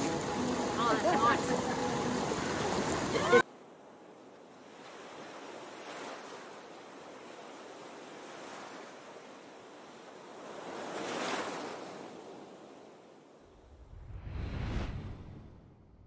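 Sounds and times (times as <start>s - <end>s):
waves washing in: 0.0s - 16.0s.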